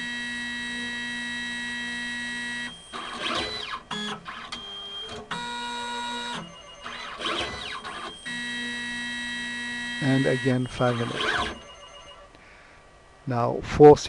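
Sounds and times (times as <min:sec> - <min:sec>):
stepper motors whining: 0:00.0 - 0:12.4.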